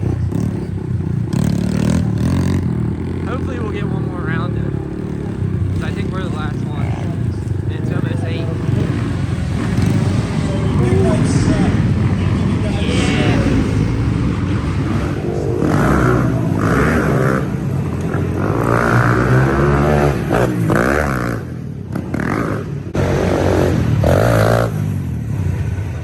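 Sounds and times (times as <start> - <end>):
pit bike engines revving: 0.0 - 26.0.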